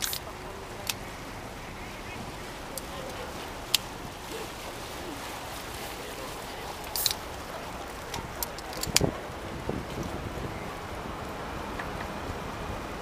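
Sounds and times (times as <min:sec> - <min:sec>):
boat wash on water: 0:00.0 - 0:13.0.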